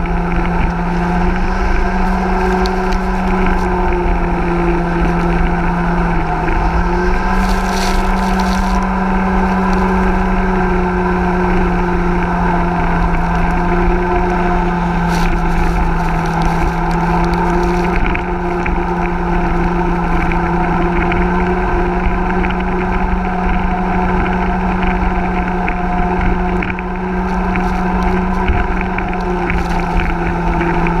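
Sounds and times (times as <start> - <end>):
boat engine running: 0.0 - 31.0
water and wind rushing: 0.0 - 31.0.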